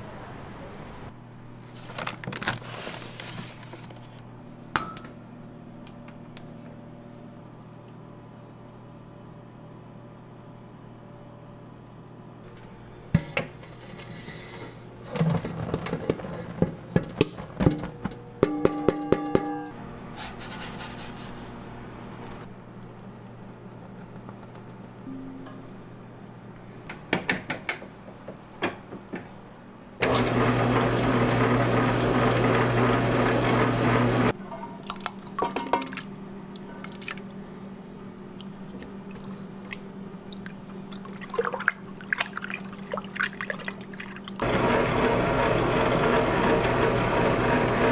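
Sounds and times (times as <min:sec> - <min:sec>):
low machine hum: 0:03.2 - 0:47.9.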